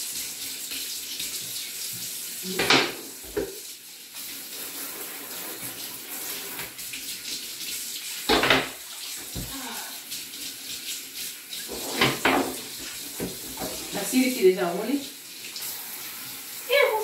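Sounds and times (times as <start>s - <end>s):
faucet running into a sink: 0.0s - 17.0s.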